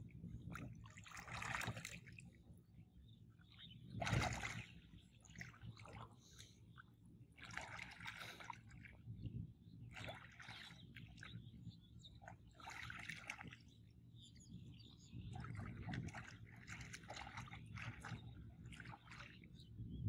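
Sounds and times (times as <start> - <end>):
muddy water sloshing and trickling: 0.0 - 20.0.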